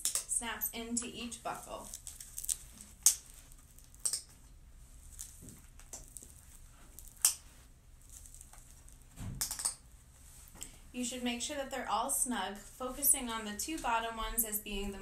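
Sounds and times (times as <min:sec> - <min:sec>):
straps rustling: 0:00.8 - 0:15.0.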